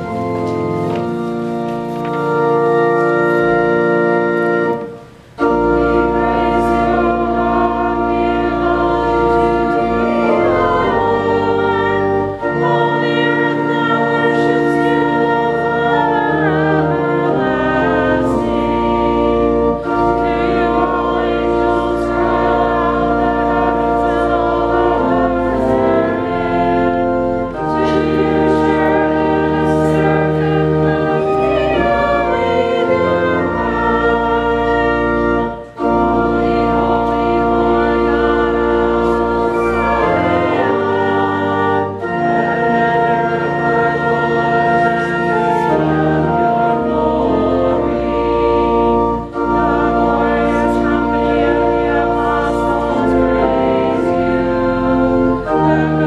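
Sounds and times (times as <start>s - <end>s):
church organ chords: 0.0s - 56.0s
congregation singing: 0.0s - 56.0s.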